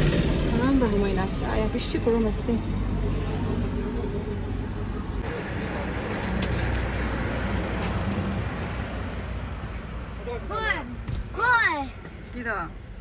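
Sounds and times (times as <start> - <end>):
road vehicle rumble: 0.0 - 13.0.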